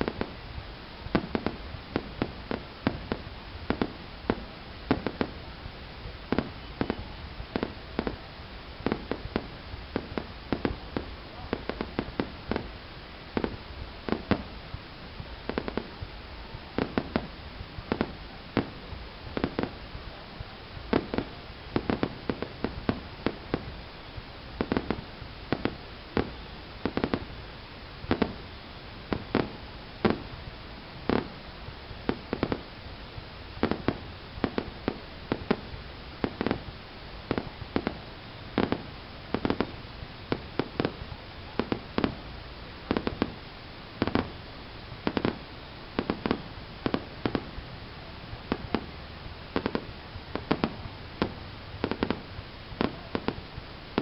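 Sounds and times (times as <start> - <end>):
fireworks bangs: 0.0 - 54.0
steady low rumble: 0.0 - 54.0.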